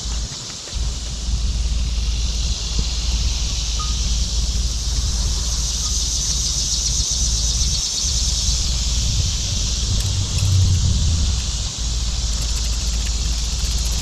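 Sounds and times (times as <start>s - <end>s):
high hiss: 0.0s - 14.0s
wind rumble on microphone: 0.0s - 14.0s.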